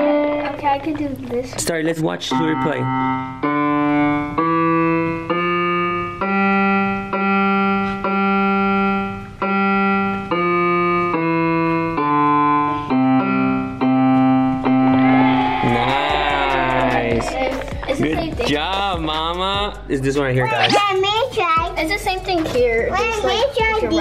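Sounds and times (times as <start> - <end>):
electronic keyboard piano melody: 0.0 - 20.8.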